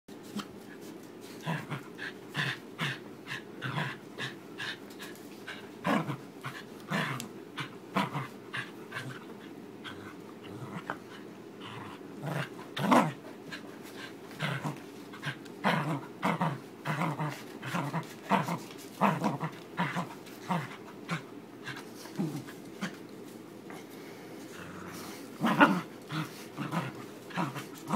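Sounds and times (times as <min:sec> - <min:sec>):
dog play-growling: 0:00.2 - 0:27.9.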